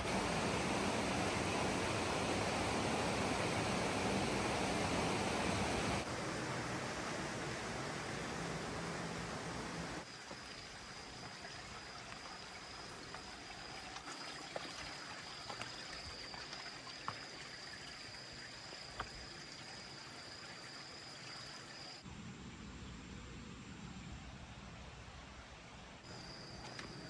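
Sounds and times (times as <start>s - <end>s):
running water: 0.0s - 22.0s.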